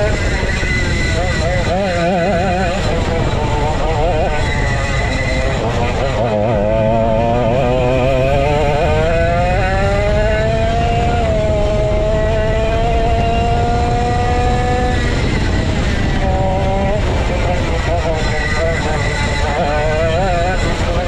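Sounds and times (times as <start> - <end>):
go-kart engine racing: 0.0 - 21.0.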